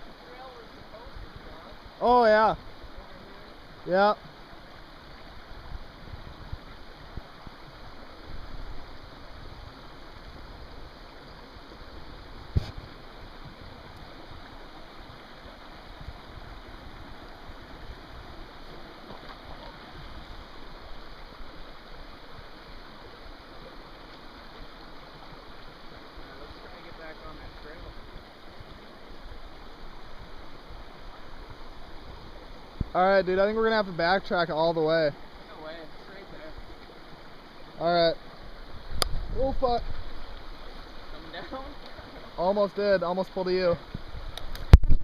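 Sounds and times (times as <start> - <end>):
creek rushing: 0.0 - 45.0.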